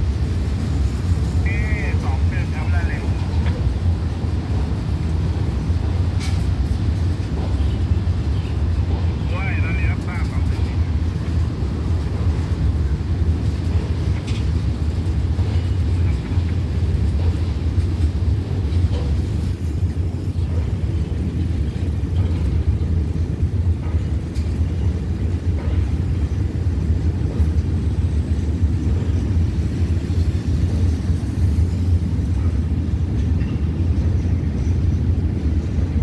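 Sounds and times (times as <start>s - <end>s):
freight train rumbling over bridge: 0.0s - 36.0s.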